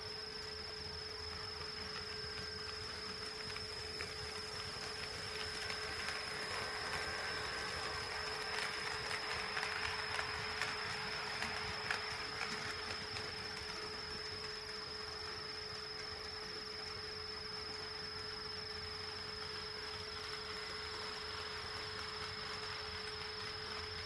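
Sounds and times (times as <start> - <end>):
high-pitched electrical whine: 0.0 - 24.0.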